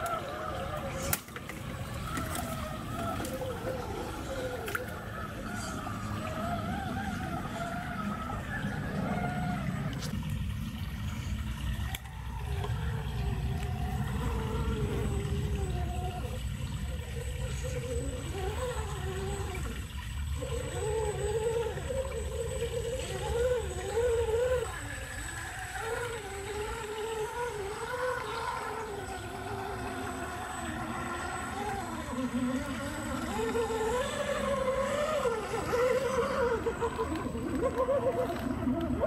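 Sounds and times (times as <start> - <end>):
electric motor whining: 0.0 - 39.0
water rushing and sloshing: 0.0 - 39.0.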